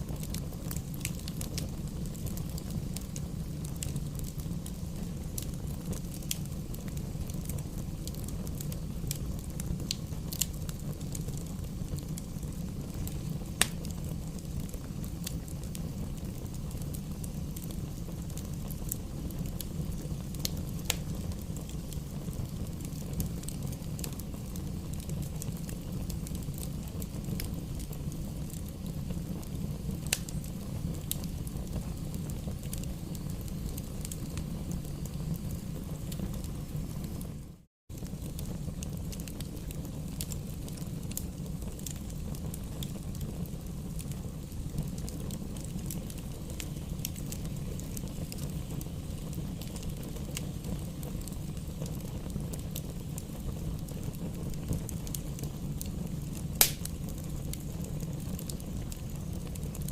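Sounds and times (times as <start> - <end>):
fire crackles and pops: 0.0 - 59.9
fire rumbling in fireplace: 0.0 - 59.9.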